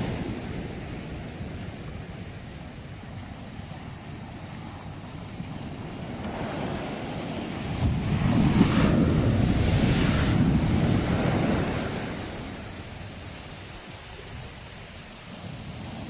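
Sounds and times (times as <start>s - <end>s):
ocean wave washing: 0.0s - 16.0s.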